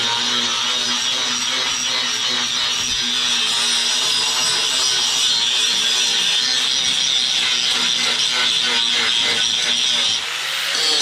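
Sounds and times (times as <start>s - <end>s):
angle grinder grinding steel: 0.0s - 11.0s.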